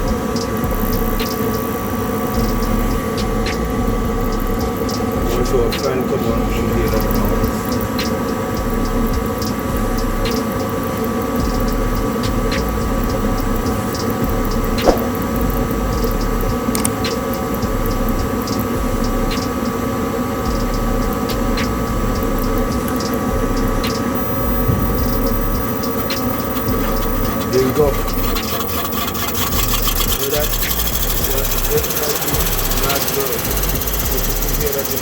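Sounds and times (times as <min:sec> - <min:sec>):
faint ticking: 0:00.0 - 0:35.0
furnace inducer motor whining: 0:00.0 - 0:35.0.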